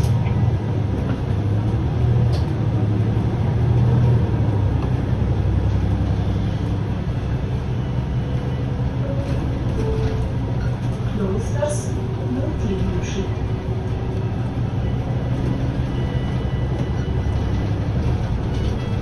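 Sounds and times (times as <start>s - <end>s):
bus engine humming: 0.0s - 19.0s.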